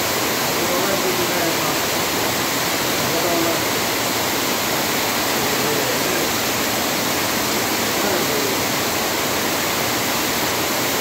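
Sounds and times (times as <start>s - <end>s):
heavy rain on foliage: 0.0s - 11.0s.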